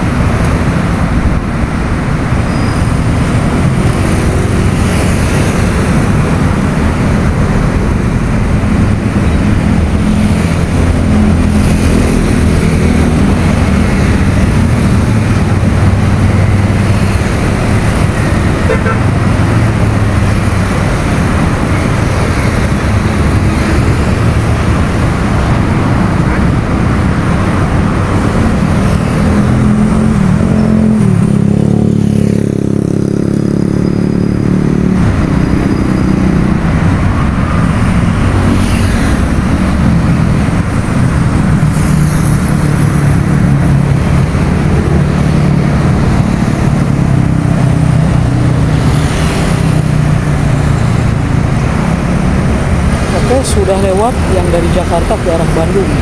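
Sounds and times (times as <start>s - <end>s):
rushing noise: 0.0s - 56.0s.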